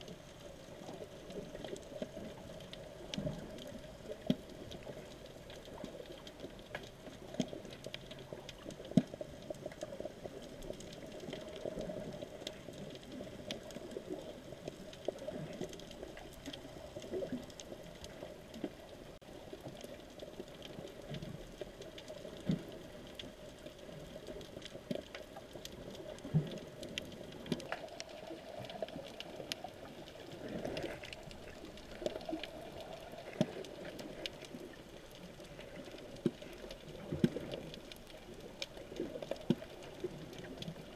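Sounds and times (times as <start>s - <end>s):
sharp clicks and crackles: 0.0s - 40.9s.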